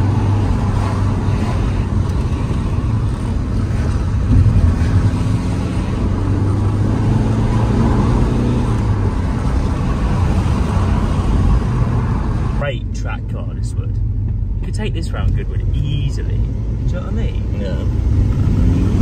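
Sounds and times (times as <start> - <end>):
car engine drone from inside: 0.0 - 19.0.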